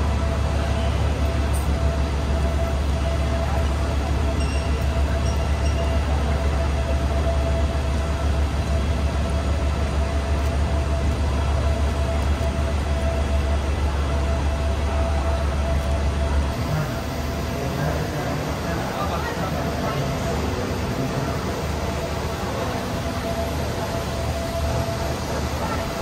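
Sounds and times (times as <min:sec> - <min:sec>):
diesel train engine idling: 0:00.0 - 0:26.0.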